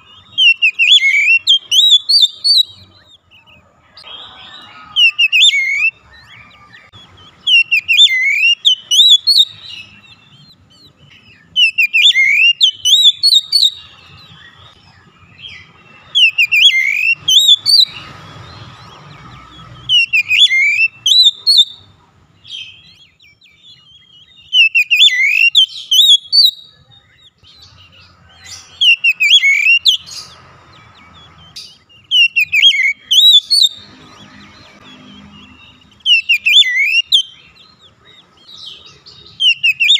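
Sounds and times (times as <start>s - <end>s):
magpie-robin whistled song: 0.0s - 39.9s.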